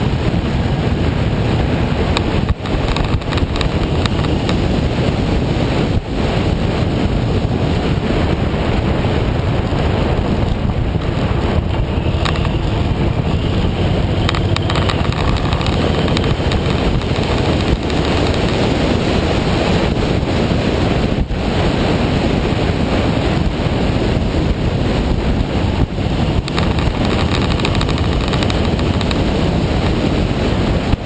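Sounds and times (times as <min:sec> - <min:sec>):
motorcycle engine: 0:00.0 - 0:31.0
road noise: 0:00.0 - 0:31.0
wind rushing on microphone: 0:00.0 - 0:31.0.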